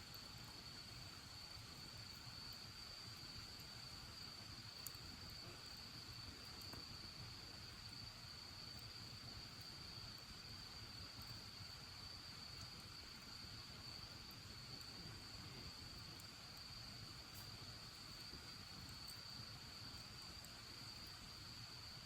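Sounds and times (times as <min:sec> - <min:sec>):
bonfire crackles: 0:00.0 - 0:21.5
high-pitched insect trill: 0:00.1 - 0:22.0.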